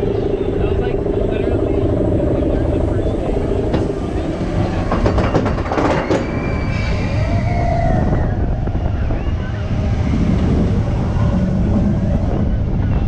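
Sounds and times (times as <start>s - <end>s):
roller coaster rumbling on track: 0.0s - 13.0s.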